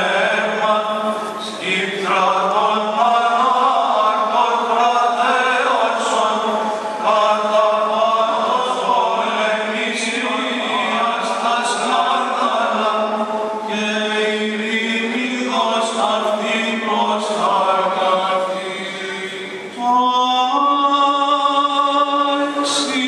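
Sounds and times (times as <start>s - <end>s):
voices chanting a melody: 0.0s - 20.0s.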